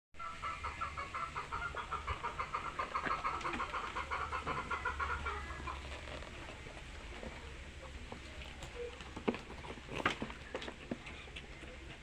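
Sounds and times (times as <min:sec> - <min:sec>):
civet clucking: 0:00.2 - 0:12.0.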